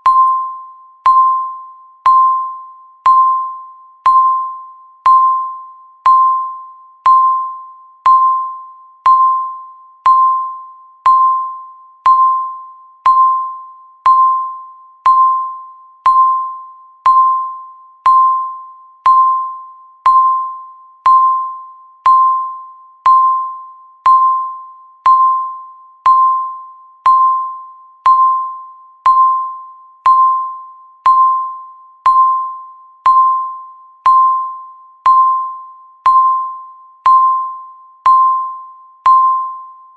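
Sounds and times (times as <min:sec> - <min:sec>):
countdown timer beeping: 0:00.0 - 0:39.7.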